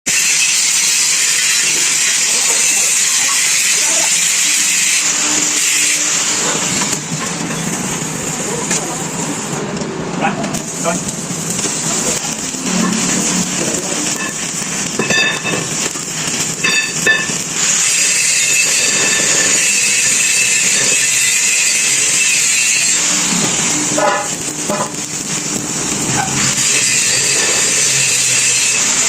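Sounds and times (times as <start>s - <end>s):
arc welding crackling hiss: 0.1s - 29.0s.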